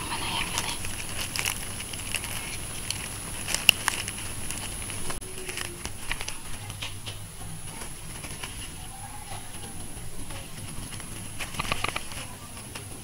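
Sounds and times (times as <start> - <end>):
leaves rustling: 0.0 - 13.0
stalks crackling and snapping: 0.0 - 13.0.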